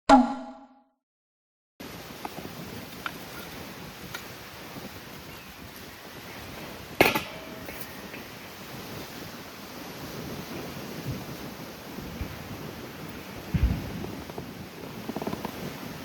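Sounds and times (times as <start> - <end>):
wind: 1.8 - 16.0.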